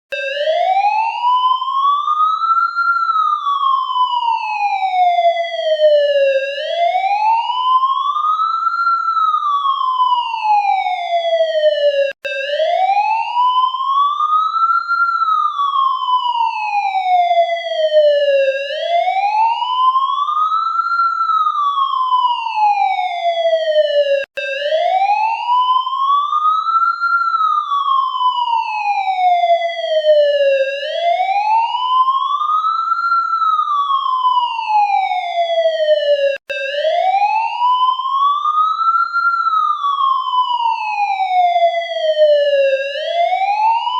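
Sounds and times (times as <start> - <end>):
police siren wailing: 0.2 - 43.9.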